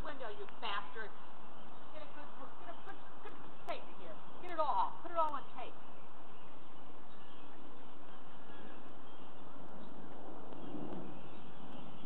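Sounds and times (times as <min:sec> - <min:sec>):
steady outdoor background hiss: 0:00.0 - 0:12.0.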